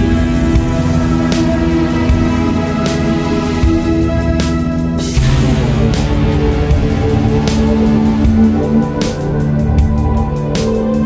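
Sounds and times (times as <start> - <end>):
loud noisy hit: 0.0 - 10.0
dark electronic ambient music: 0.0 - 11.0.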